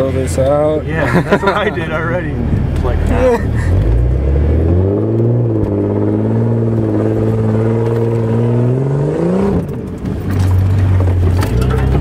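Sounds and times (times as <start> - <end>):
car engine pulling hard: 0.0 - 12.0.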